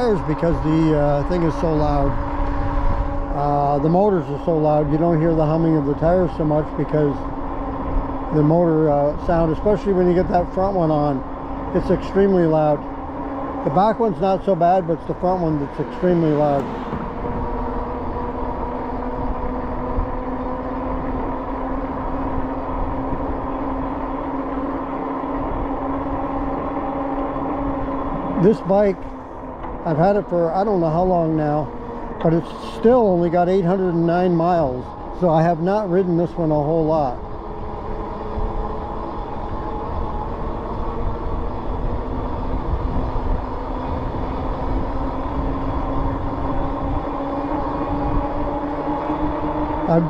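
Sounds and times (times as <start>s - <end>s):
fat bike tires humming on pavement: 0.0s - 50.0s
wind rumble on microphone: 0.0s - 50.0s.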